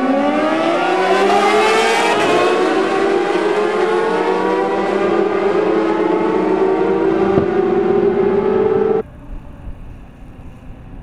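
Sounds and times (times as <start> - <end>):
racing motorcycles revving: 0.0 - 9.0.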